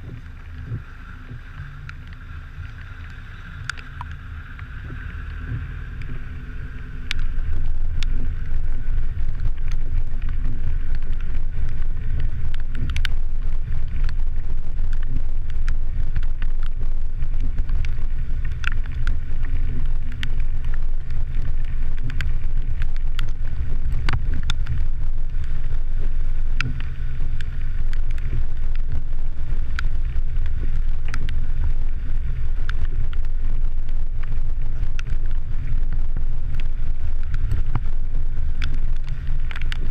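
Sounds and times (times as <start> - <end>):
vehicle road and wind rumble: 0.0 - 39.9.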